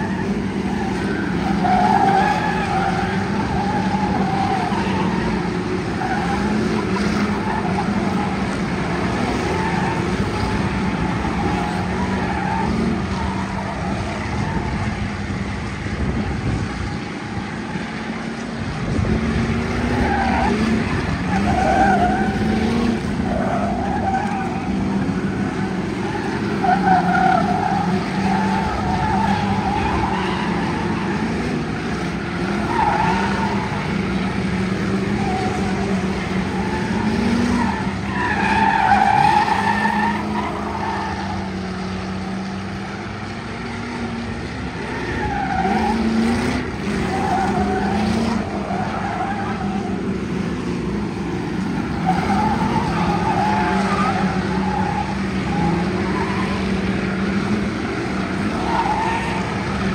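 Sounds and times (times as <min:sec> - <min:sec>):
race car engines passing: 0:00.0 - 0:59.9
tires squealing: 0:00.0 - 0:59.9.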